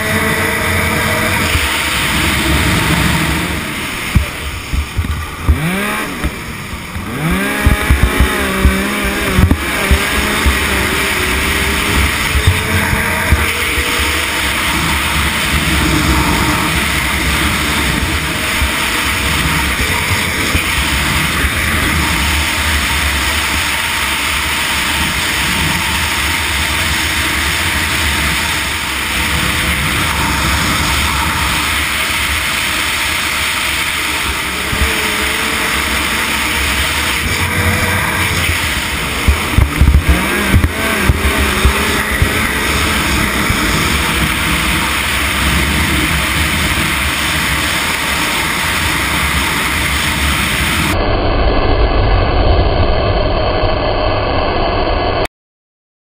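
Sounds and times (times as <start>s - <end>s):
wind on microphone: 0.0s - 55.2s
snowmobile engine running hard: 0.0s - 55.3s.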